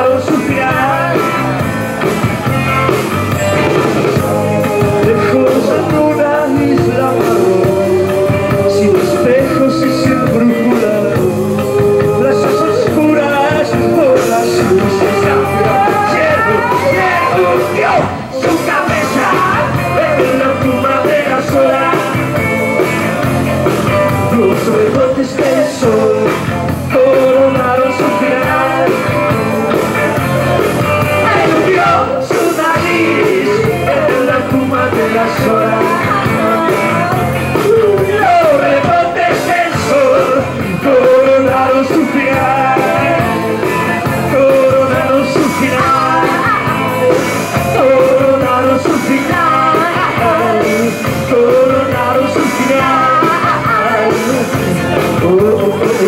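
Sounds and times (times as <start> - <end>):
person singing: 0.0 - 2.1, 4.1 - 30.3, 31.1 - 56.0
live rock band playing: 0.0 - 56.0.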